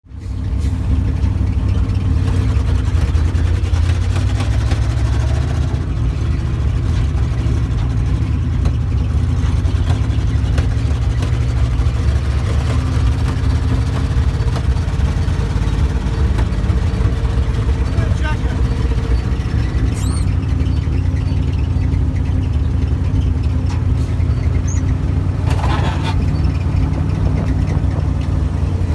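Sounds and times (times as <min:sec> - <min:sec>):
engine running with pops: 0:00.2 - 0:28.9.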